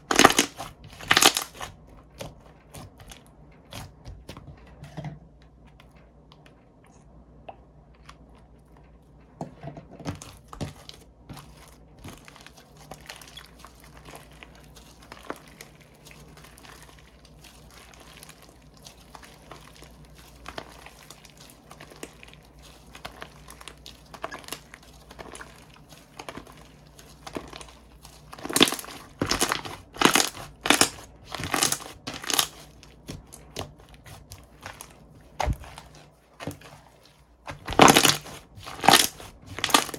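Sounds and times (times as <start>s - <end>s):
slime crackling: 0.0s - 3.9s, 10.1s - 39.9s.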